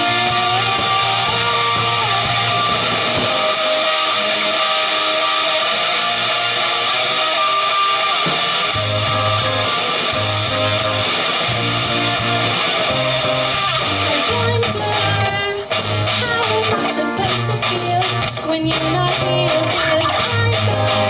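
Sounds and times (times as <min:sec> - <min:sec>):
bass guitar line: 0:00.0 - 0:21.0
strummed electric guitar chords: 0:00.0 - 0:21.0.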